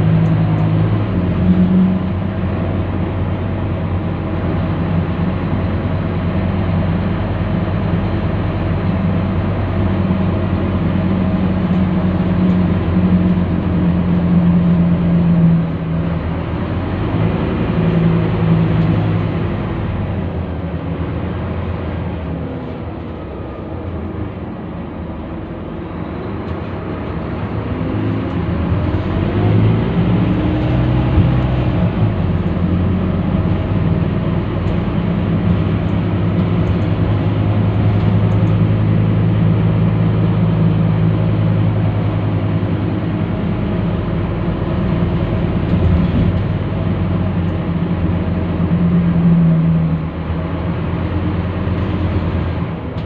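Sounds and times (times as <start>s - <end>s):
bus diesel engine from inside: 0.0s - 53.0s.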